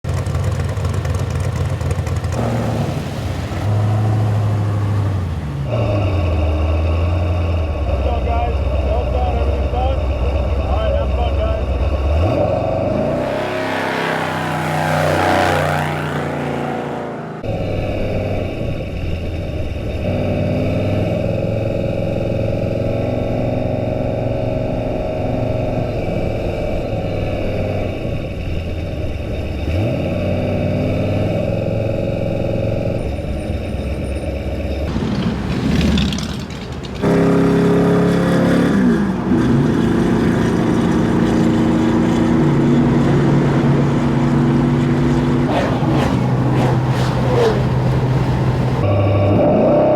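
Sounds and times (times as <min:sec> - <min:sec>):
truck engine revving: 0:00.0 - 0:49.9.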